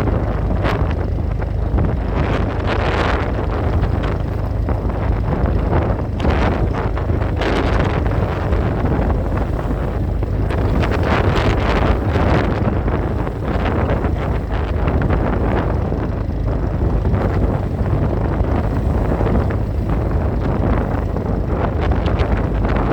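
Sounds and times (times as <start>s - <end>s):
low rumble: 0.0s - 22.9s
wind buffeting microphone: 0.0s - 22.9s.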